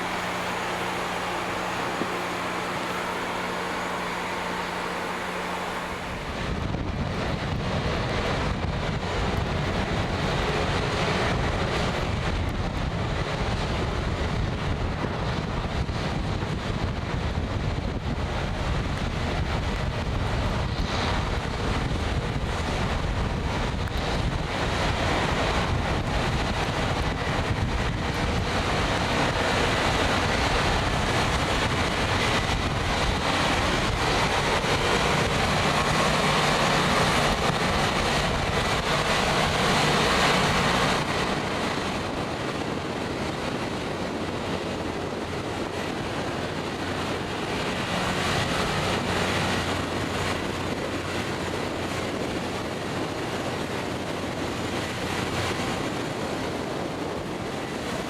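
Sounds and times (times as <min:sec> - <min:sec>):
rail grinding machine: 0:00.0 - 0:58.0.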